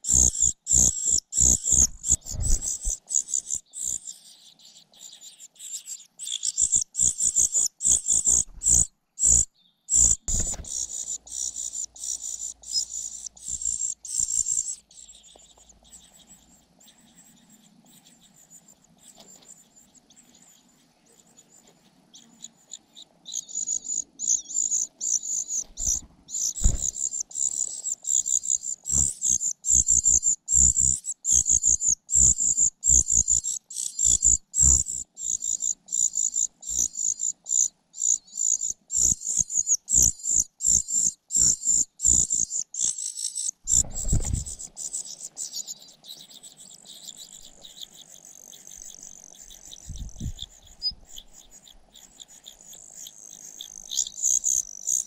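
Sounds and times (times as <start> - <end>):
nestlings chittering: 0.0 - 55.0.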